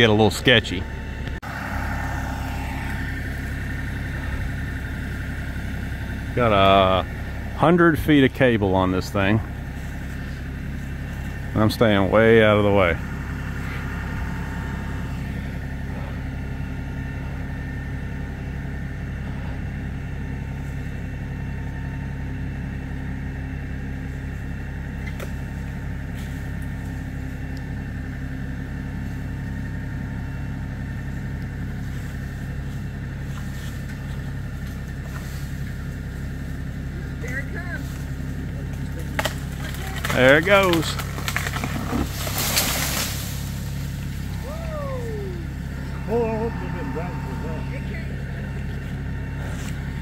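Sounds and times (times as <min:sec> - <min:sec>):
distant tractor diesel engine: 0:00.0 - 0:50.0.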